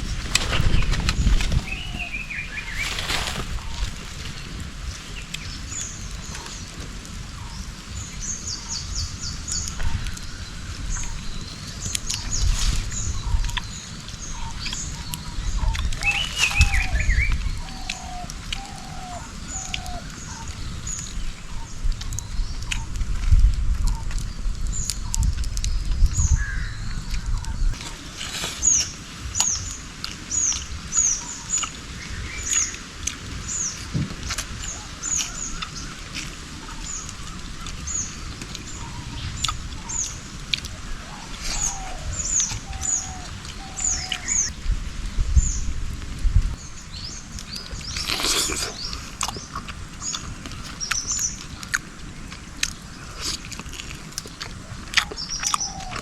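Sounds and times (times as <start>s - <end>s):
low rumble: 0.0s - 28.1s, 33.2s - 53.0s
birds chirping: 0.0s - 56.0s
noisy rustle: 0.0s - 56.0s.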